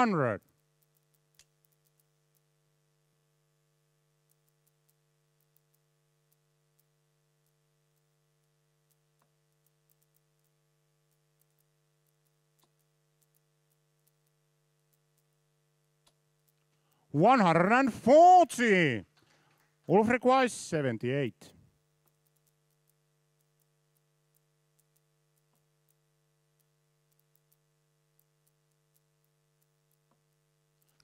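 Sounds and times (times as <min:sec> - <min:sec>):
faint electrical hum: 0:00.0 - 0:31.0
faint ticks: 0:00.4 - 0:17.1, 0:21.5 - 0:31.0.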